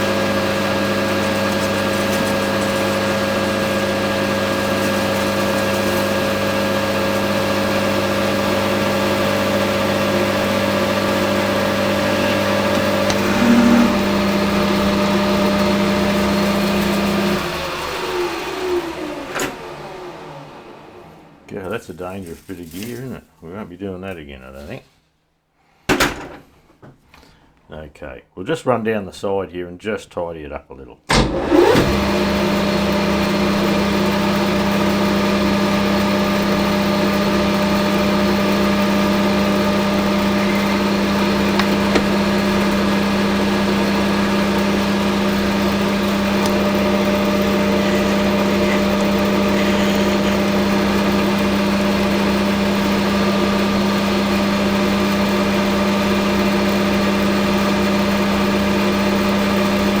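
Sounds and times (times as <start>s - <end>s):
metal lathe running: 0.0s - 20.1s, 31.1s - 60.0s.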